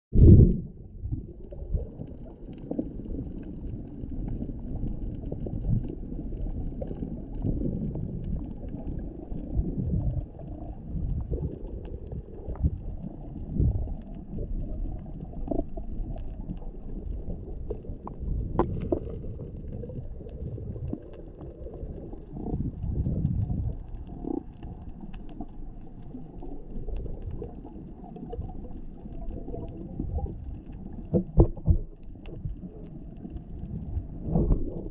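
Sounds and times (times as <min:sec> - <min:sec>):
muffled underwater water rumble: 0:00.1 - 0:34.9
faint clicks: 0:01.4 - 0:34.9.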